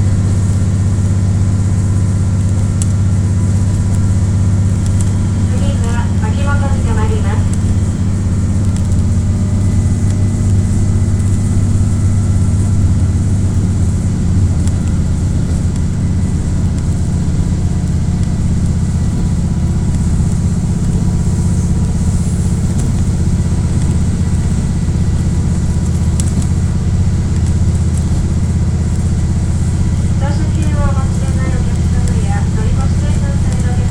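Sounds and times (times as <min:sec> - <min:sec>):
diesel engine drone: 0:00.0 - 0:33.9
faint steady whine: 0:00.0 - 0:33.9.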